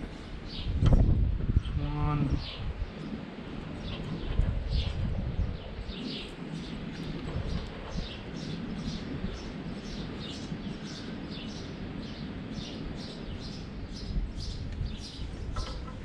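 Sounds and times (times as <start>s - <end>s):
low steady background rumble: 0.0s - 16.0s.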